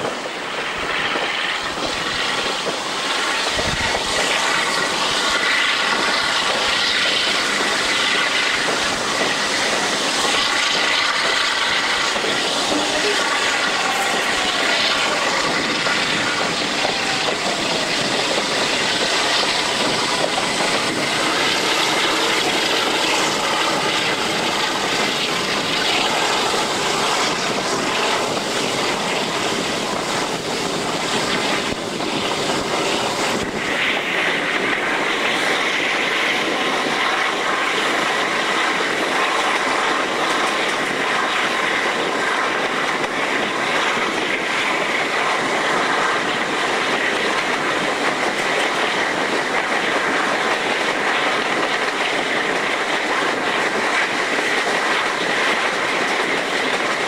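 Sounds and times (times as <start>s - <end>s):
train running at speed: 0.0s - 57.0s.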